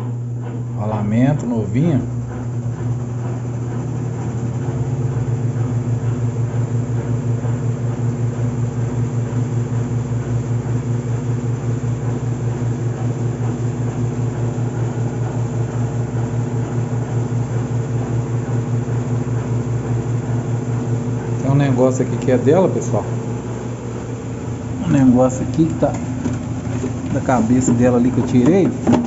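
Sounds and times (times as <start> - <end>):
washing machine spinning: 0.0 - 29.0.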